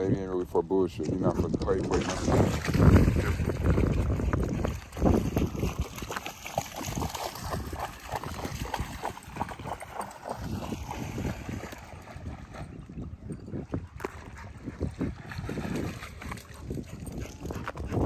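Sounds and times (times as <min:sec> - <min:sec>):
low wind rumble: 0:00.0 - 0:06.1, 0:06.7 - 0:18.0.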